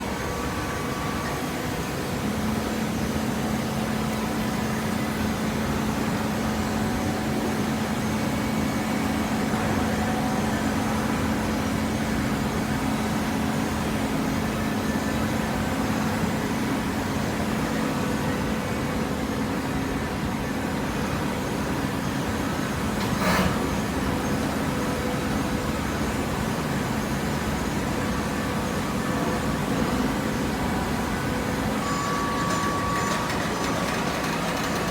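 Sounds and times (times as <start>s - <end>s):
baling press machine hum: 0.0s - 34.9s.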